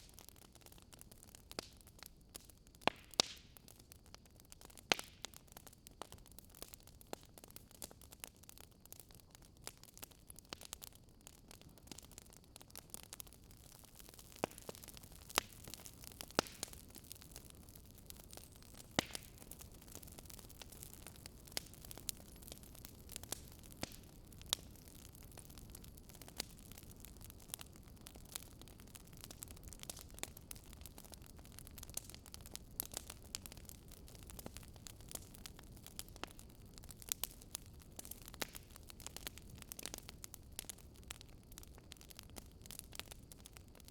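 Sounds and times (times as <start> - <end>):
low hiss of burning: 0.0 - 43.9
wood fire crackling: 0.0 - 43.9.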